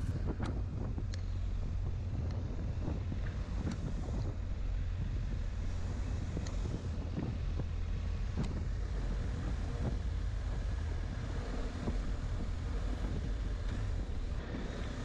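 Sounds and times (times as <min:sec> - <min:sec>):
motorcycle engine and road rumble: 0:00.0 - 0:15.0
wind buffeting microphone: 0:00.0 - 0:15.0.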